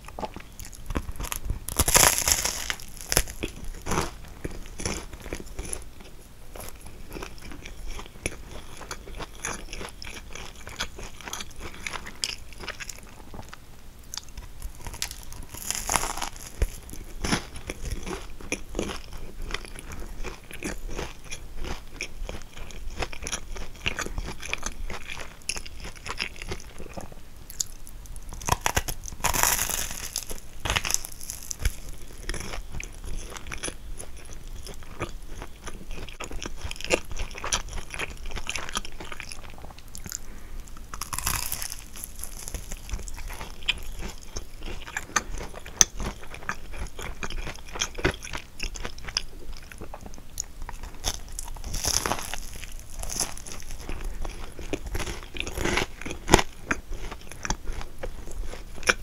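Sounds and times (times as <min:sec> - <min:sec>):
pastry crust crunching: 0:00.0 - 0:59.0
soft chewing and mouth sounds: 0:00.0 - 0:59.0.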